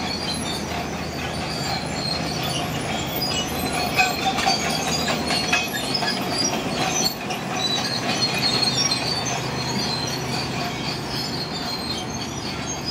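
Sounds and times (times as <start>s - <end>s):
diesel engine running: 0.0s - 12.9s
steel tracks squealing and clanking: 0.0s - 12.9s.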